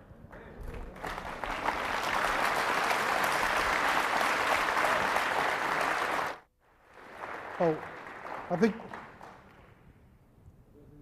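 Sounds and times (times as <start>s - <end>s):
audience applauding: 0.3s - 9.8s.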